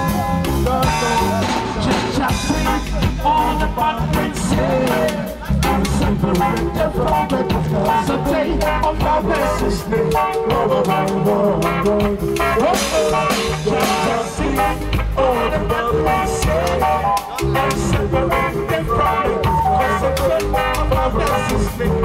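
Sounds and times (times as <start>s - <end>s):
drum kit: 0.0s - 22.0s
electric bass guitar: 0.0s - 22.0s
electric guitar: 0.0s - 22.0s.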